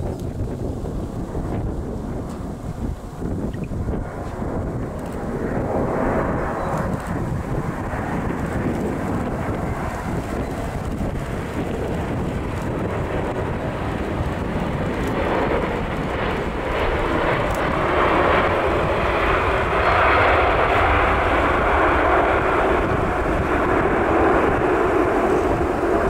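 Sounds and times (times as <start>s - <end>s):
jet engine rumble: 0.0s - 26.0s.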